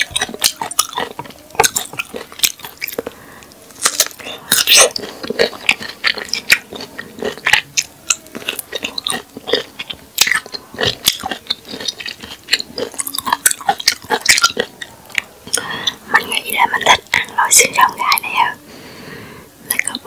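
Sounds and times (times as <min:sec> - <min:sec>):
crisp chewing and crunching: 0:00.0 - 0:18.3.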